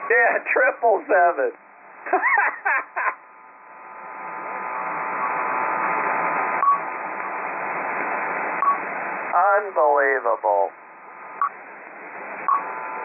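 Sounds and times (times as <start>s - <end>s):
shortwave receiver hiss: 0.0s - 13.0s.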